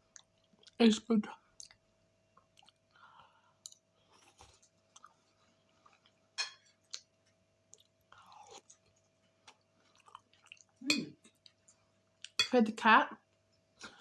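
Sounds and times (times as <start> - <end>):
person chewing food: 0.0 - 0.8, 1.5 - 12.4.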